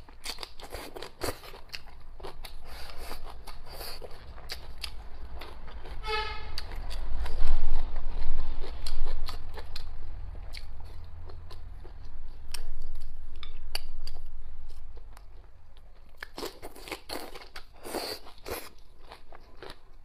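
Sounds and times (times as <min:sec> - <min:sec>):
wet chewing and mouth clicks: 0:00.0 - 0:06.0, 0:06.6 - 0:20.0.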